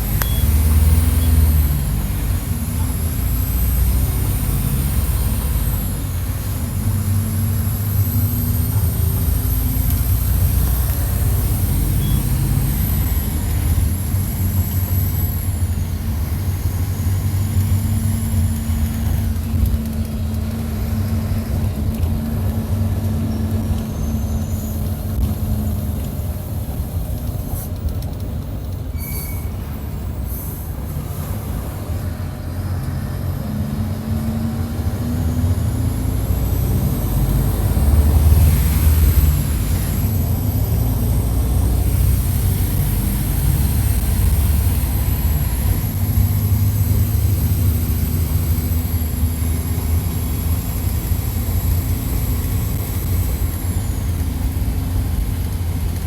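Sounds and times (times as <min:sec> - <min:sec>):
bus diesel engine: 0:00.0 - 0:56.0
high engine whine: 0:00.0 - 0:56.0.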